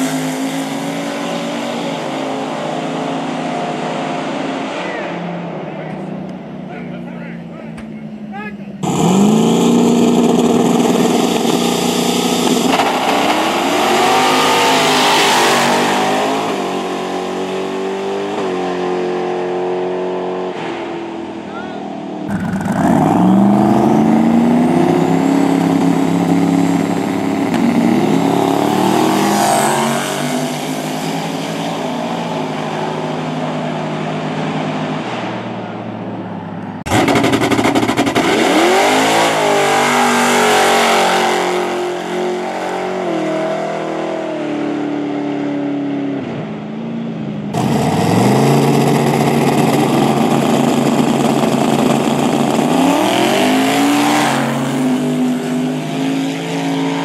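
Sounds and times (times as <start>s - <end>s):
drag race cars accelerating: 0.0s - 57.0s.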